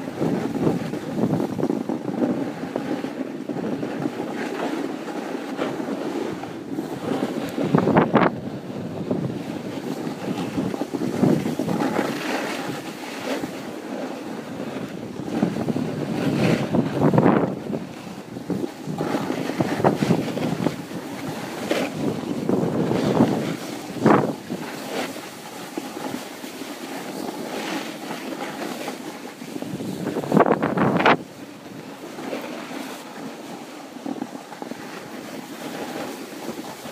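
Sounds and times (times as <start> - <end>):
snowboard scraping over snow: 0.0 - 36.9
wind buffeting microphone: 0.0 - 36.9.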